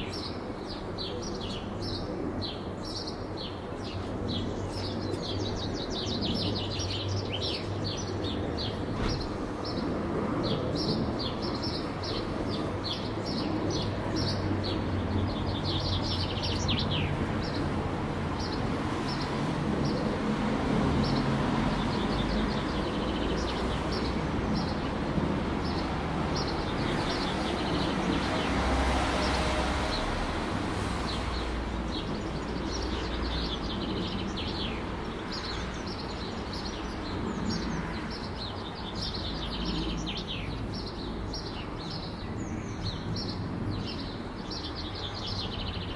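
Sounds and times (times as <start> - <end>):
small birds chirping: 0.0 - 20.2, 21.0 - 30.1, 31.0 - 45.9
city traffic rumble: 0.0 - 45.9.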